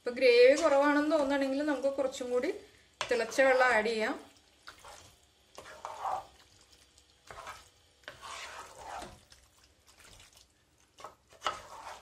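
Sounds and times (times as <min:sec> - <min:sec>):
wooden spatula stirring in pot: 0:00.0 - 0:12.0.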